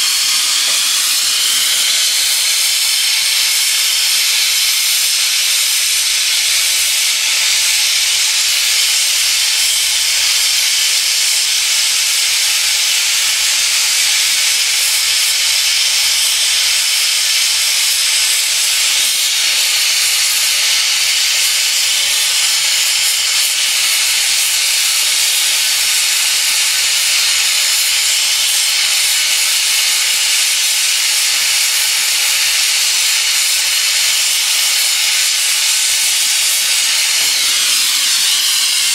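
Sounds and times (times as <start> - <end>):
gas torch flame hissing: 0.0 - 38.9.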